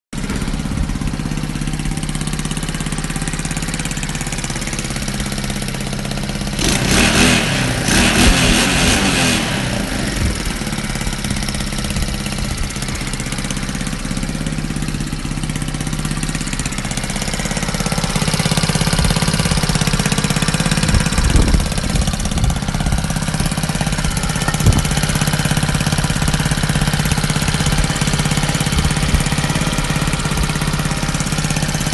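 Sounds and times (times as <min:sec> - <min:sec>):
mini-bike engine idling and revving: 0:00.2 - 0:31.9.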